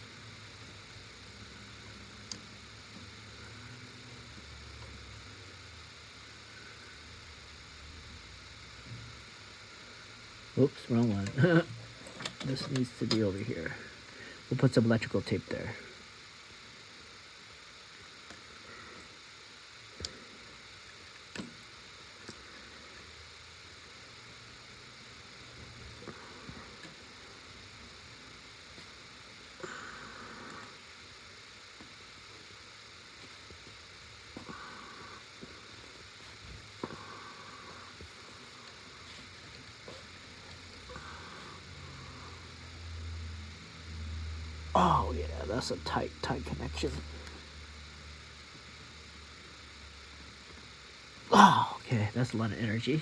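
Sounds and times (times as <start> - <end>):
low hum and hiss: 0.0 - 53.0.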